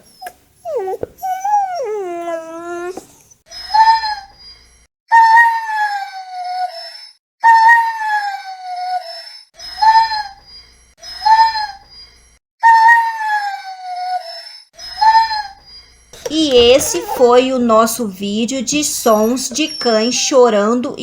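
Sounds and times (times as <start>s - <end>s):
dog whining: 0.0s - 10.5s, 11.1s - 11.9s, 12.6s - 17.9s, 19.1s - 20.3s.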